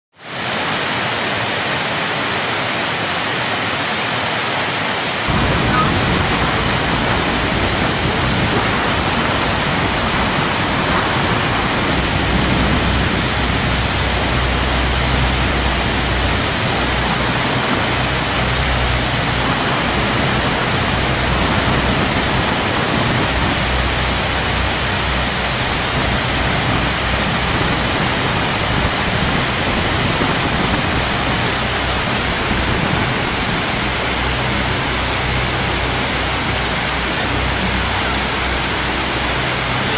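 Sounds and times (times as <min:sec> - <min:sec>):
waterfall rushing: 0:00.2 - 0:39.9
low rumble: 0:05.3 - 0:39.9.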